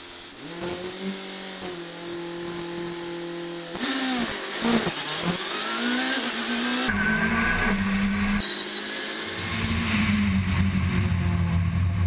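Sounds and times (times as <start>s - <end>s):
rally car engine revving: 0.4s - 12.0s.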